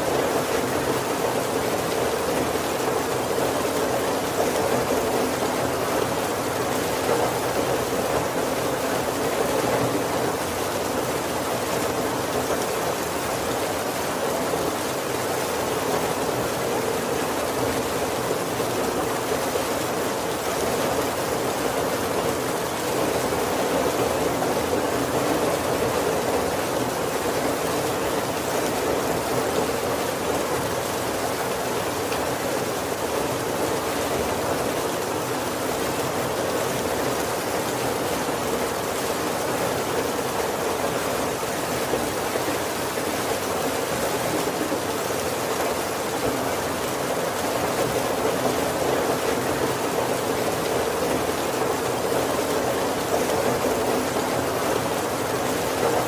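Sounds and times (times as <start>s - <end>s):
heavy rain on wooden roof: 0.0s - 56.0s.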